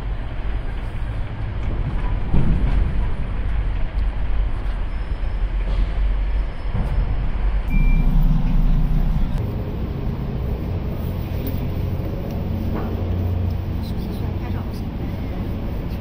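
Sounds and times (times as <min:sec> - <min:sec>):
road traffic engines: 0:00.0 - 0:16.0.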